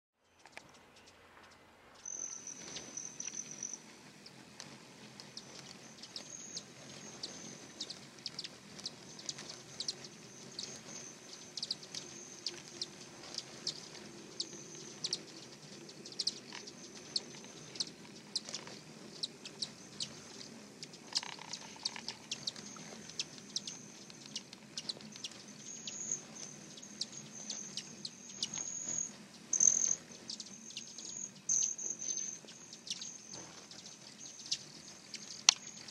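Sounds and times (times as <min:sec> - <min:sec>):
hummingbirds buzzing and chipping: 0:00.2 - 0:35.9.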